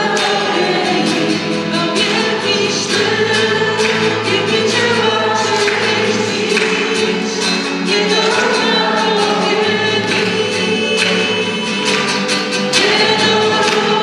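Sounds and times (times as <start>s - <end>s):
group singing a slow hymn: 0.0s - 14.0s.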